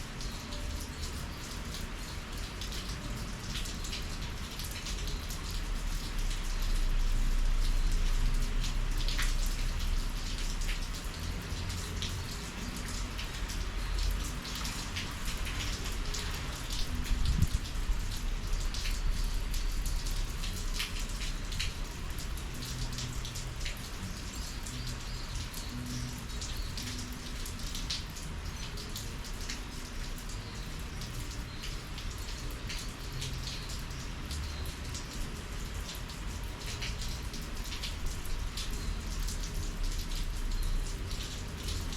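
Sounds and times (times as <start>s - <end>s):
rain patter: 0.0s - 41.9s.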